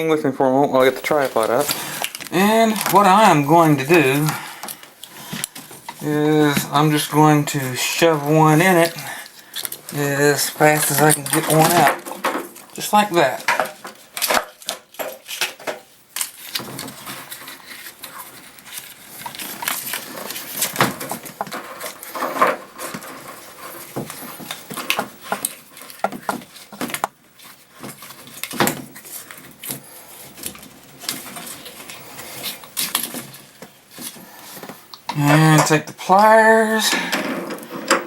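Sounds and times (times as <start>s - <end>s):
rustling and scraping: 0.8s - 38.0s.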